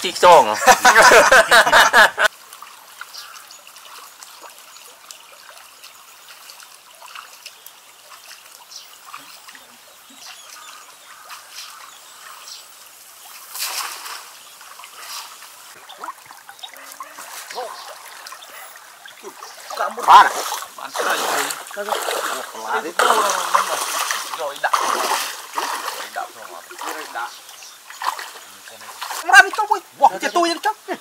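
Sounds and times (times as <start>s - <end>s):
shallow river water trickling: 0.0s - 31.0s
splashes from wading: 0.8s - 30.8s.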